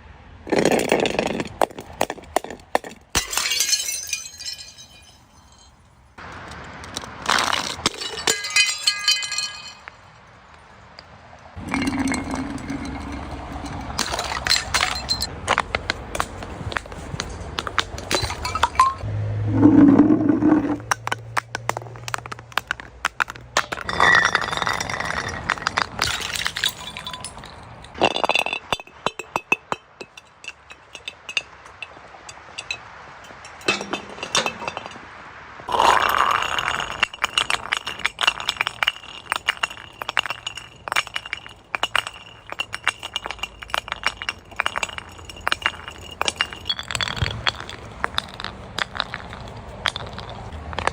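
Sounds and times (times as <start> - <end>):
glass bottles being crushed: 0.5 - 5.8, 6.8 - 10.1, 11.6 - 19.0, 19.7 - 35.0, 35.7 - 50.9.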